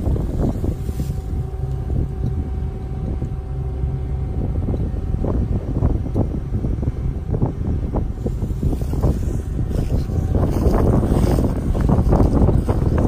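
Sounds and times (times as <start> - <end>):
combine harvester droning: 0.0 - 13.0
faint mechanical whine: 0.0 - 13.0
wind buffeting microphone: 0.0 - 13.0.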